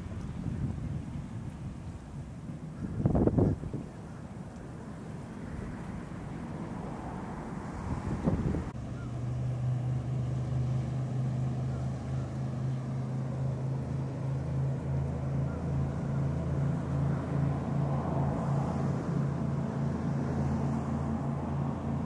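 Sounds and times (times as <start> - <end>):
boat engines droning: 0.0 - 22.0
water rushing: 0.0 - 22.0.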